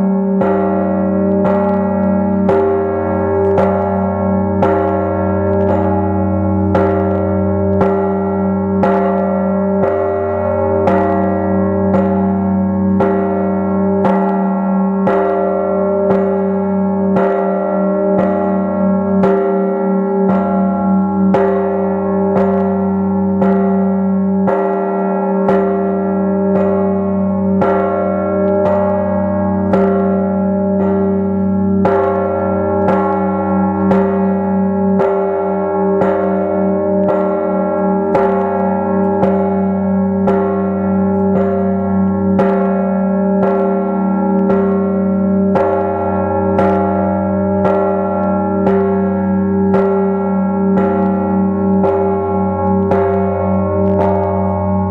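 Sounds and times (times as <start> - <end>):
large church bell ringing: 0.0 - 54.9.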